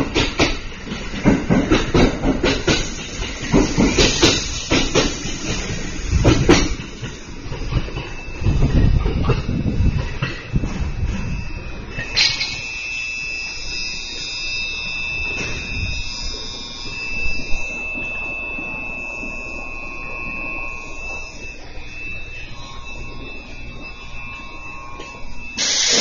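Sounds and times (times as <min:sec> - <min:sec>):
station departure bell ringing: 0:00.0 - 0:26.0.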